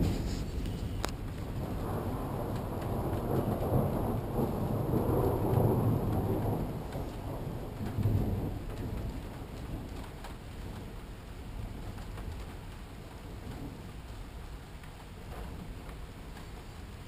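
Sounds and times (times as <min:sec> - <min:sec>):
rolling thunder: 0:00.0 - 0:14.1
steady rain: 0:00.0 - 0:17.0.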